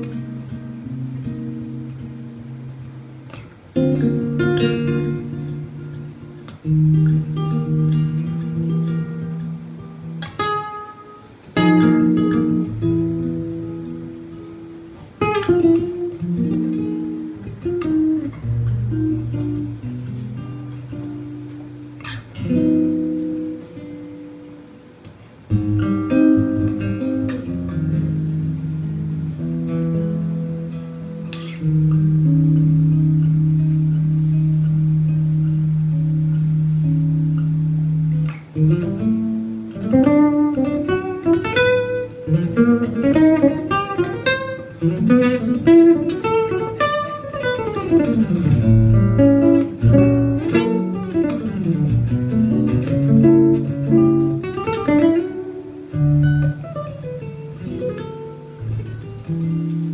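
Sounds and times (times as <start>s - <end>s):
acoustic guitar duet: 0.0s - 59.9s.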